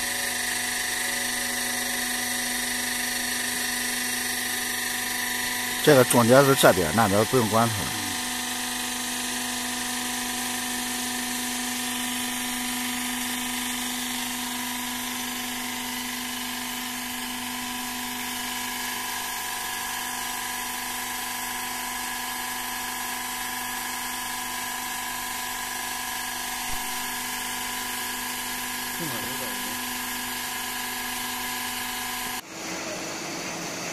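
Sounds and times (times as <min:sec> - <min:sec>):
hydraulic power unit whining: 0:00.0 - 0:33.9.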